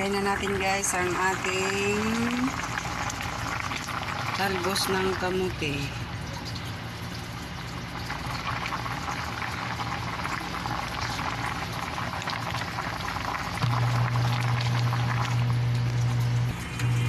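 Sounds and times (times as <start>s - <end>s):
low steady hum: 0.0s - 17.0s
soup boiling in covered pot: 0.0s - 17.0s.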